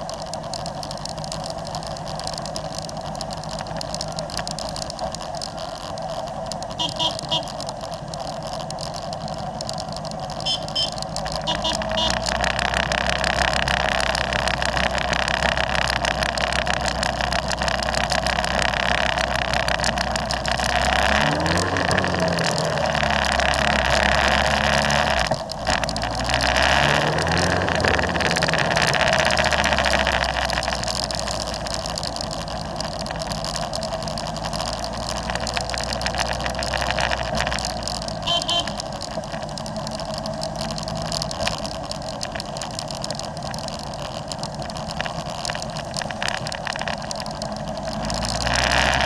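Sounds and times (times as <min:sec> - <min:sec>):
motorcycle engines running: 0:00.0 - 0:49.0
wind and road noise: 0:00.0 - 0:49.0.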